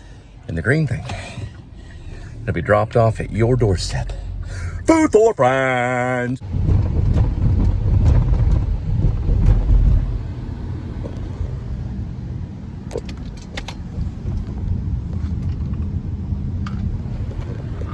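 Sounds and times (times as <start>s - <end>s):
car rumbling in motion: 0.0s - 17.9s.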